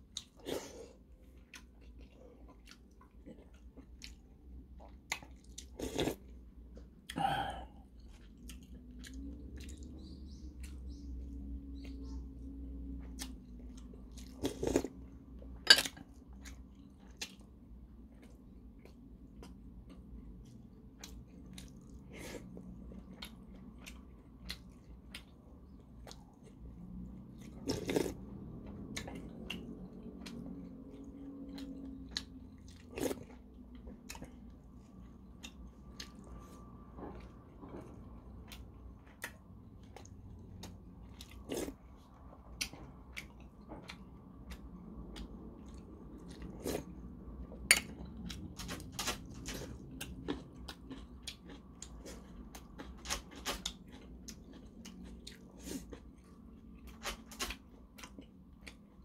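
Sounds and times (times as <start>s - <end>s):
man chewing and eating: 0.0s - 59.0s.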